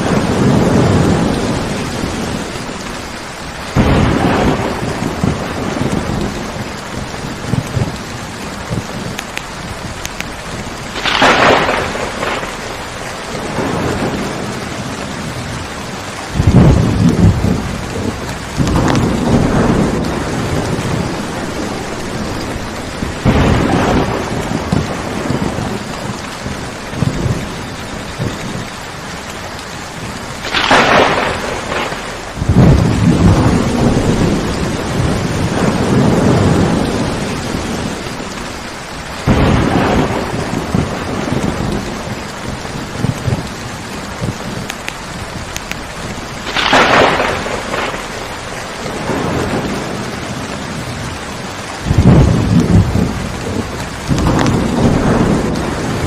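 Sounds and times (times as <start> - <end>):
thunder crack: 0.0 - 3.0, 3.7 - 15.7, 16.3 - 28.7, 30.3 - 38.6, 39.2 - 51.2, 51.8 - 56.0
low thunder rumbles: 0.0 - 56.0
steady rain: 0.0 - 56.0.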